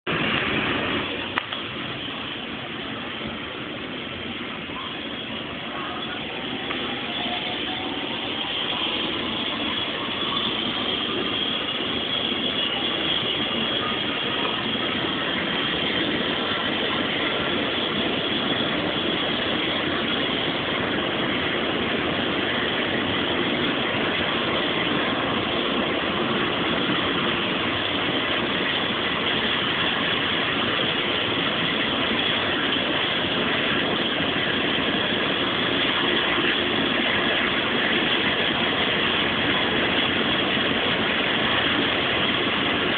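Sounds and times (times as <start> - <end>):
helicopter turbine and rotor: 0.1 - 42.9.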